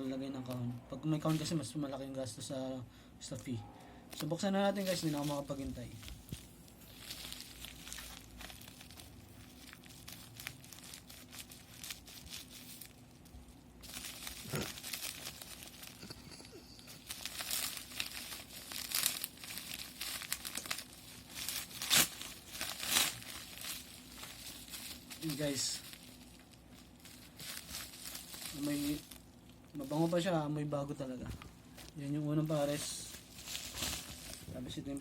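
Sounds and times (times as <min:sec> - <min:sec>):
packaging rustling and tearing: 0:04.1 - 0:30.4, 0:31.7 - 0:35.0.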